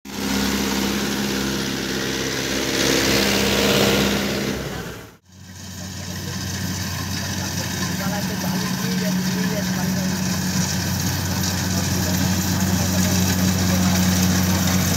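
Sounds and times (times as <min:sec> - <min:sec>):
tractor diesel engine under load: 0:00.0 - 0:14.9
low engine hum: 0:00.1 - 0:14.9.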